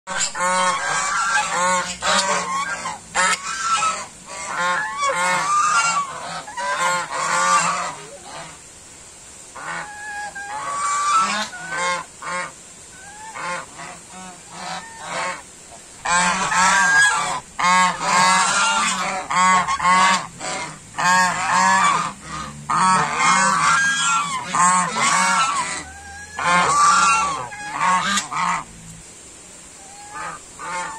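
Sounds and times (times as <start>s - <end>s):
geese honking: 0.1s - 8.6s, 9.6s - 28.7s, 29.8s - 30.9s.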